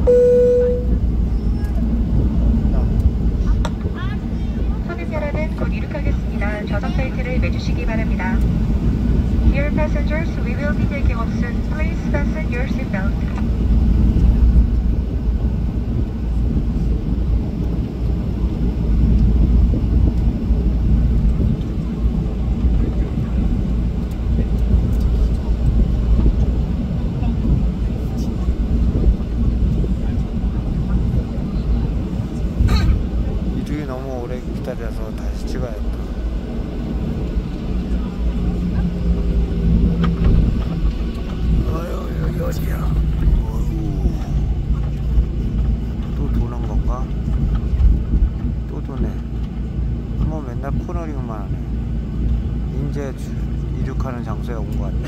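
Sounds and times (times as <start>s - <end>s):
jet engines rumbling in cabin: 0.0s - 55.0s.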